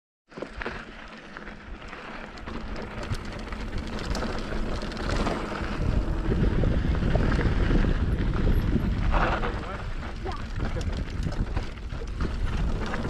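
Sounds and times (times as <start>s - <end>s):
bike tyres crunching over gravel: 0.3s - 13.0s
wind rumbling on microphone: 1.6s - 13.0s.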